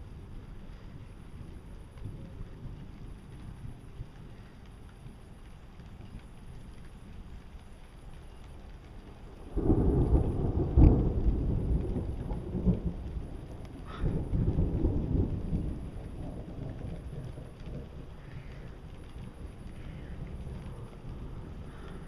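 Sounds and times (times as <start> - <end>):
thunder crack and rumble: 0.0 - 22.0.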